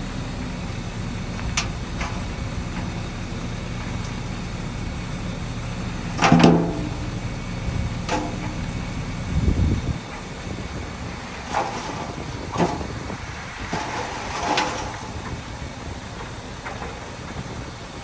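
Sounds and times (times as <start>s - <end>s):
heavy machinery engine rumble: 0.0s - 18.0s.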